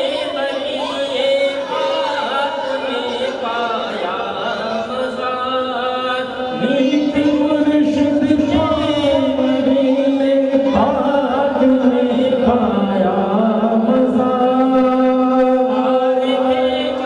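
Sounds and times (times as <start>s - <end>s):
men chanting a hymn: 0.0s - 17.0s.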